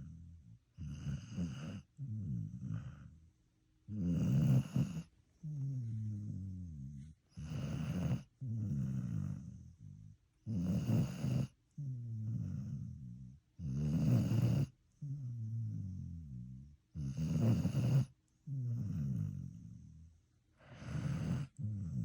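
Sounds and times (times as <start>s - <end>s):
snoring: 0.0s - 3.2s, 3.9s - 20.0s, 20.6s - 22.0s.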